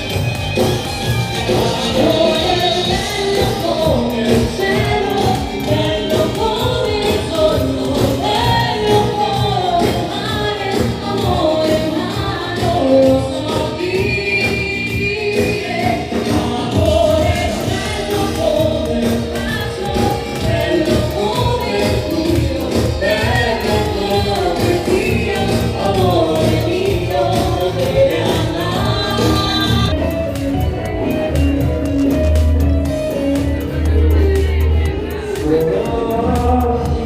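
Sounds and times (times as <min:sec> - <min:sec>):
voices singing over a beat: 0:01.1 - 0:31.9, 0:33.3 - 0:37.0.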